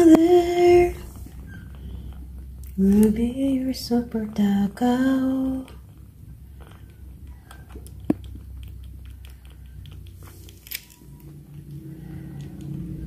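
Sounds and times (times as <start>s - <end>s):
kitten sucking on bottle: 0.9s - 13.0s.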